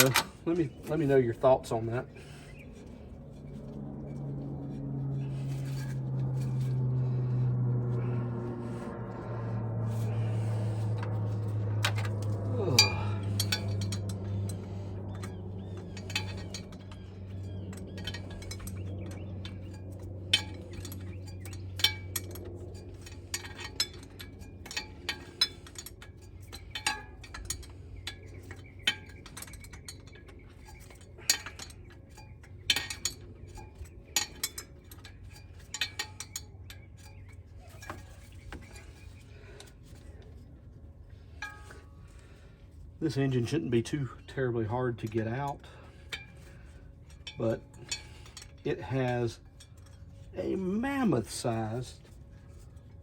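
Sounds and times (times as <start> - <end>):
metal tools clinking on metal: 0.0 - 2.7, 5.1 - 40.5, 41.1 - 53.0
low steady hum: 0.0 - 53.0.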